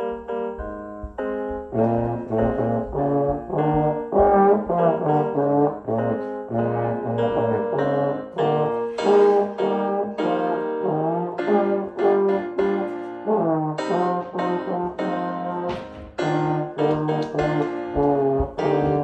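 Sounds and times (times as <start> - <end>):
piano accompaniment: 0.0 - 19.0
trombone melody: 1.4 - 19.0.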